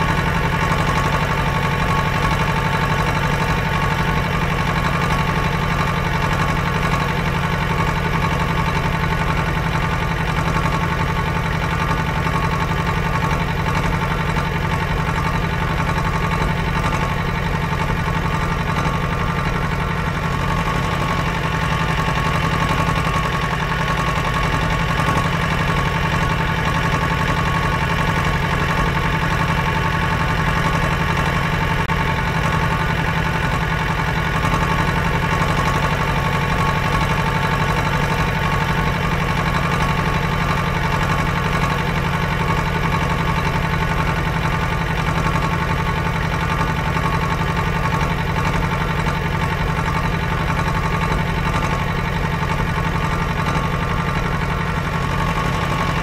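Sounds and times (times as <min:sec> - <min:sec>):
heavy machinery engine drone: 0:00.0 - 0:56.0.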